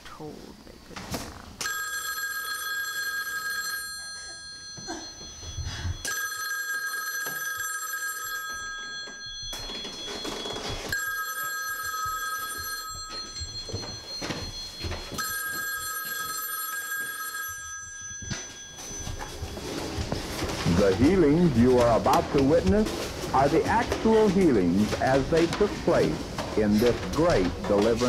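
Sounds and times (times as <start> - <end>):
telephone bell ringing: 1.6 - 26.5.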